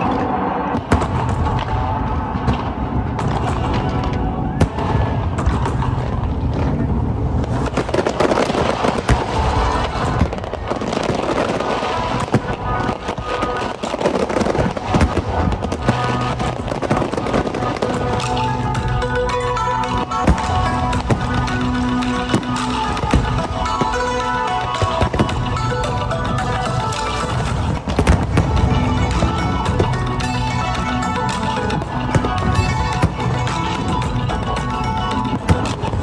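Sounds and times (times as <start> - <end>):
loud background music: 0.0 - 6.1, 7.8 - 36.0
fireworks bursting and crackling: 0.0 - 36.0.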